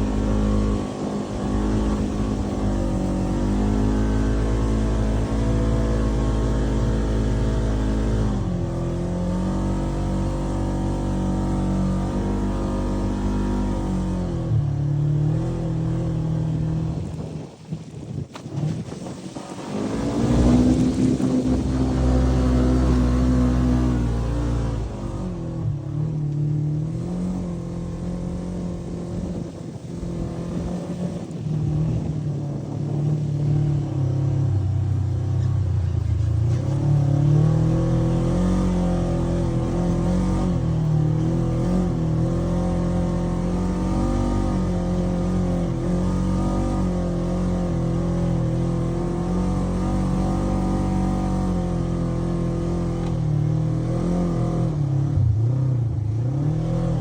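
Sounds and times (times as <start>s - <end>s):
utility vehicle engine revving: 0.0s - 17.5s, 18.4s - 57.0s.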